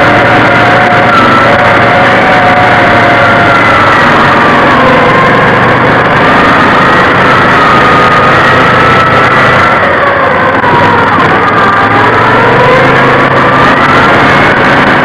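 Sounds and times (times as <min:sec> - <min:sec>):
engine with whining tone: 0:00.0 - 0:15.0.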